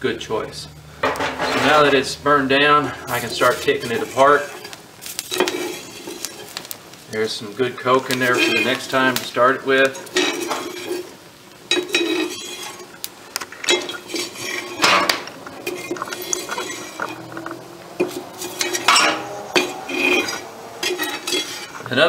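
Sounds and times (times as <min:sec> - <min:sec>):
fire poker scraping metal pan: 0:00.8 - 0:22.0.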